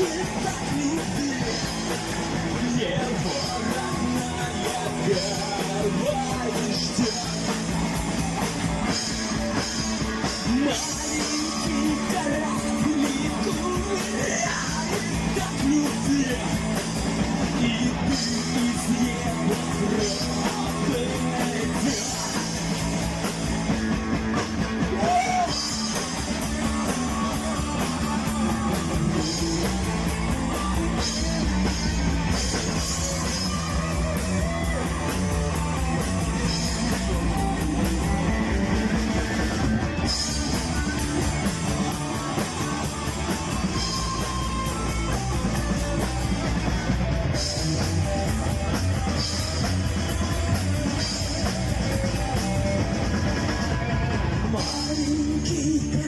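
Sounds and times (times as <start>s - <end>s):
bass guitar: 0.0s - 56.0s
drum kit steady beat: 0.0s - 56.0s
electric guitar: 0.0s - 56.0s
rock band playing: 0.0s - 56.0s.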